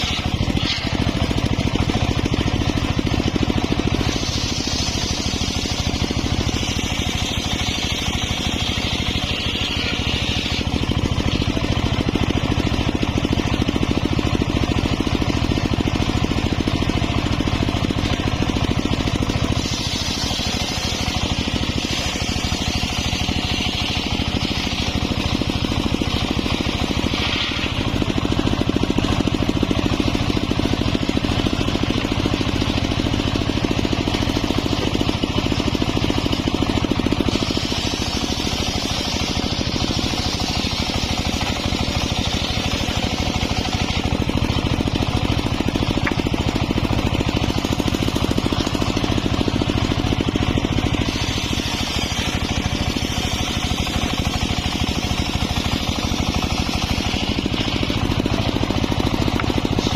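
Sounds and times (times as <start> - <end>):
saw blade hissing through wood: 0.0 - 12.8, 15.6 - 59.9
circular sawmill engine running: 0.0 - 59.9.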